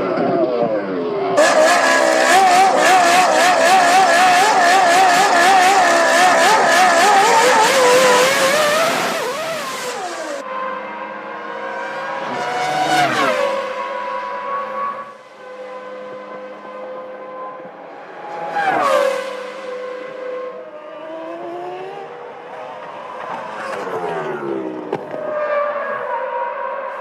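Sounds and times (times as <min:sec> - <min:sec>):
racing car engines at high revs: 0:00.0 - 0:15.3, 0:17.6 - 0:27.0.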